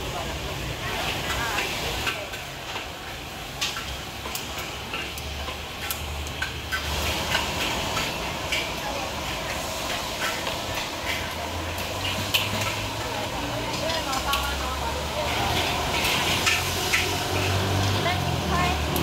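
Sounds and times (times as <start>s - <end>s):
background chatter: 0.0s - 6.0s, 6.7s - 19.0s
metal utensils clinking: 1.2s - 19.0s.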